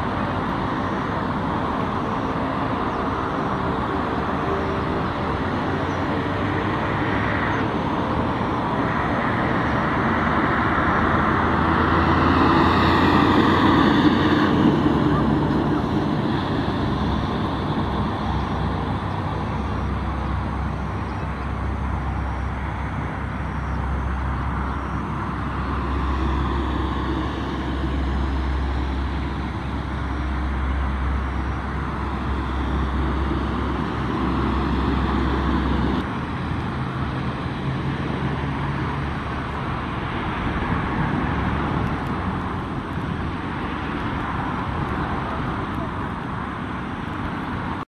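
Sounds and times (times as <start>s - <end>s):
turboprop engines droning: 0.0s - 47.8s
road traffic noise: 0.0s - 47.9s.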